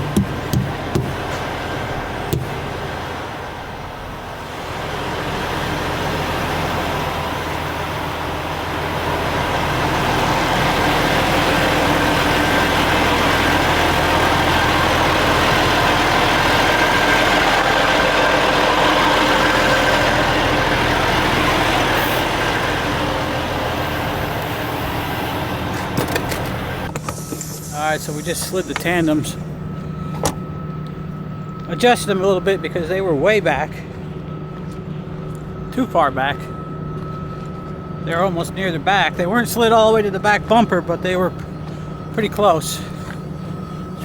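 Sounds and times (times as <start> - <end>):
diesel truck engine under load: 0.0 - 44.0.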